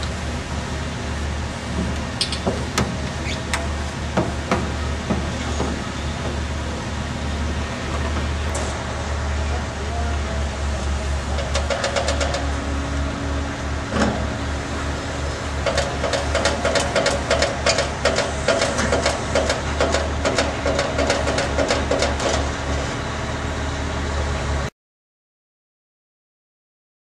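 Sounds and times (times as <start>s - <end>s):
crane engine humming: 0.0s - 24.7s.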